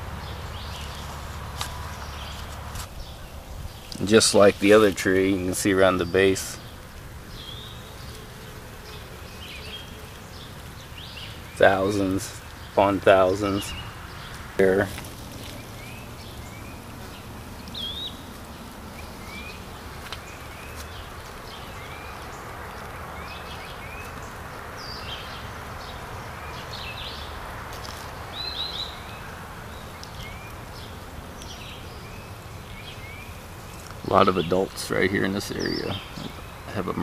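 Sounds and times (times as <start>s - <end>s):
birds chirping: 0.0s - 37.0s
steady background hiss: 0.0s - 37.0s.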